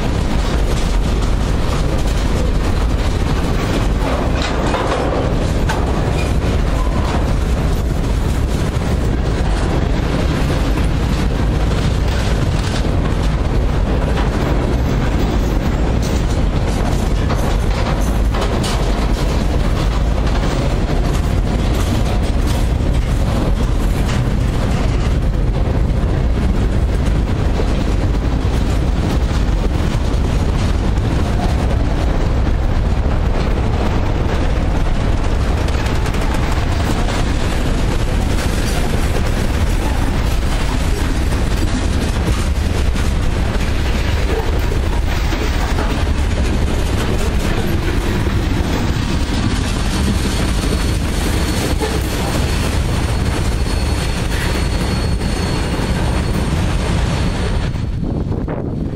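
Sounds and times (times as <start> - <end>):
steel wheels rumbling on rail: 0.0 - 58.9
train clicks and knocks: 0.0 - 58.9.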